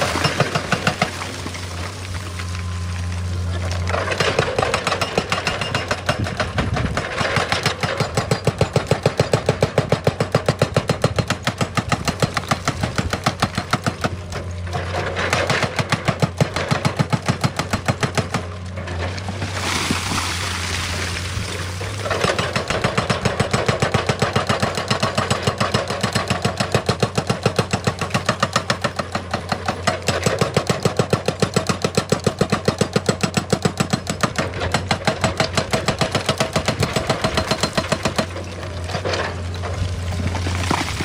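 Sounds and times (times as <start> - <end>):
hydraulic breaker hammering stone: 0.0 - 1.4, 3.9 - 18.6, 21.9 - 39.1
diesel engine running: 0.0 - 41.0.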